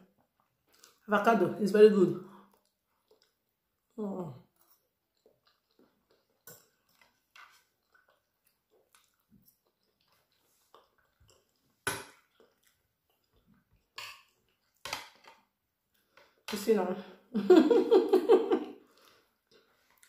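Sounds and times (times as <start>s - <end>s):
person chewing: 0.2s - 1.0s, 2.4s - 16.5s, 18.6s - 20.0s.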